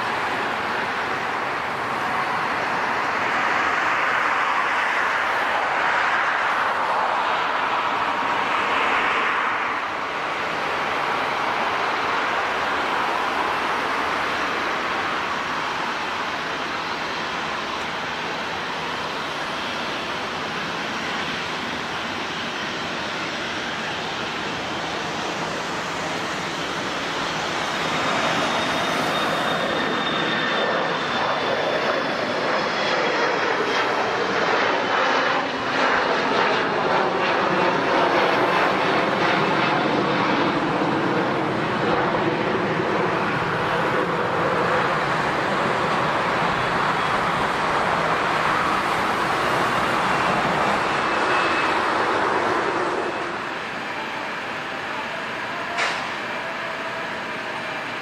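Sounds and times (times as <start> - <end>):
jet engines passing by: 0.0 - 58.0.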